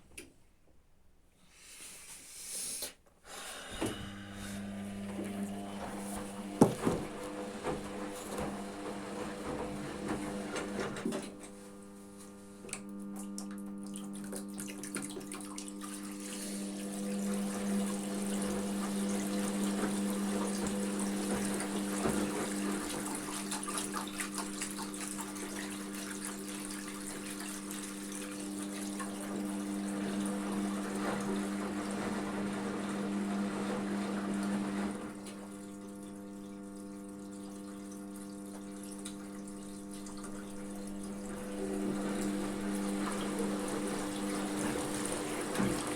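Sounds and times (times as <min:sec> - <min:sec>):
washing machine hum: 0:03.3 - 0:45.9.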